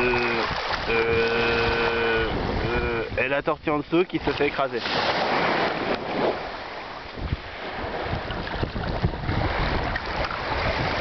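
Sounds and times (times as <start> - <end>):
small waves washing over sand: 0.0 - 3.2, 4.0 - 11.0
wind buffeting microphone: 0.0 - 11.0.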